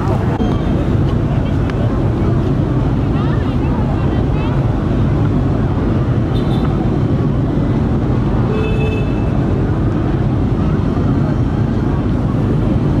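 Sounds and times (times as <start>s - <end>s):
busy city street rumble: 0.0s - 13.0s.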